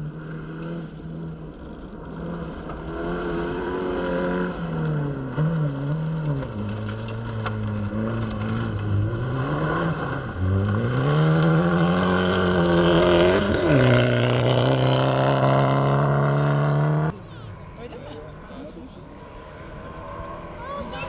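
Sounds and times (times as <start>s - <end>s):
rally car engine running hard: 0.0s - 21.0s.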